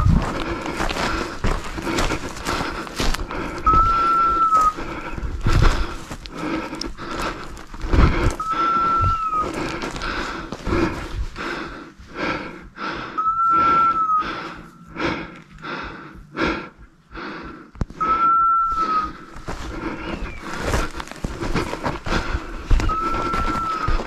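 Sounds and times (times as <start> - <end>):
person breathing hard: 0.0 - 24.0.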